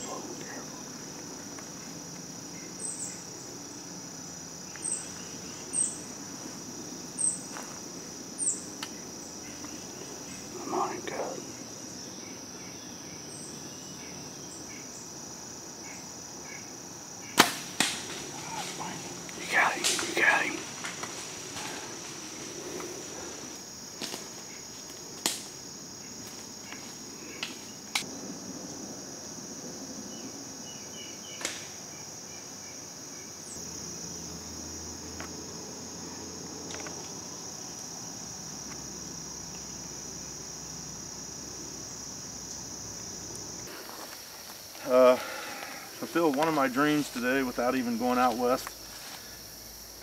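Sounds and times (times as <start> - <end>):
crickets and insects chirring: 0.0 - 50.0.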